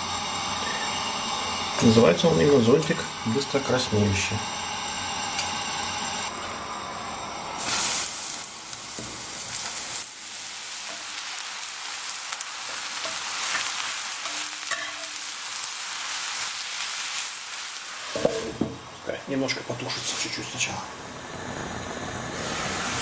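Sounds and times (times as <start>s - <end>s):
mushrooms sizzling in oil: 0.0s - 23.0s.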